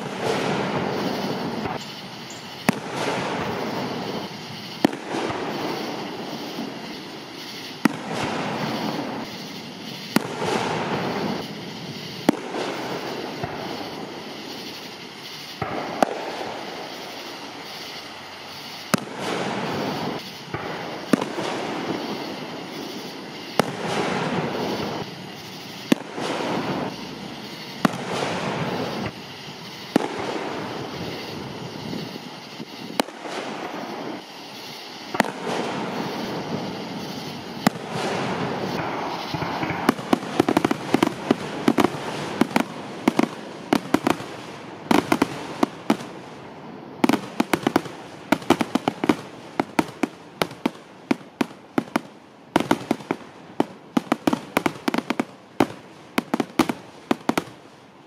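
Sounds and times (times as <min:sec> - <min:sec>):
fireworks booming: 0:00.0 - 0:57.6
fireworks sharp cracks: 0:00.0 - 0:57.9.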